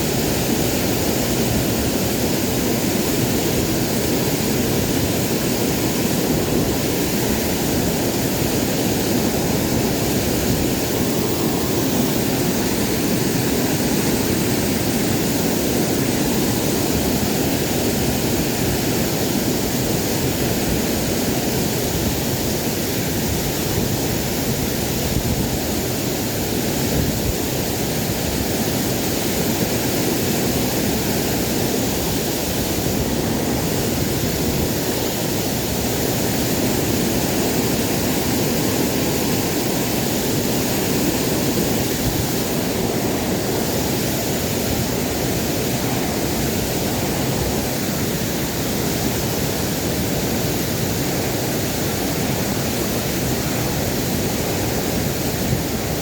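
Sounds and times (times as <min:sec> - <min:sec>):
waterfall rushing: 0:00.0 - 0:25.0, 0:27.9 - 0:56.0.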